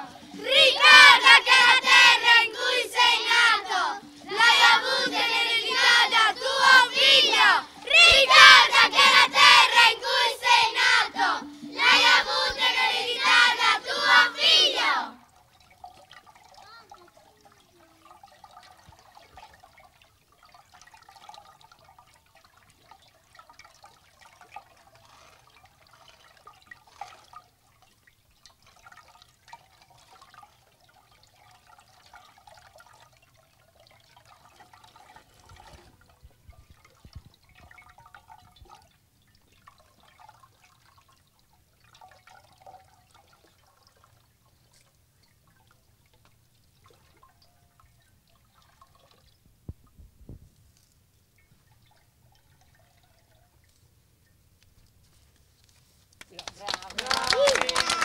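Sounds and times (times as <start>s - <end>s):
water splashing in plastic basins: 0.0s - 50.1s.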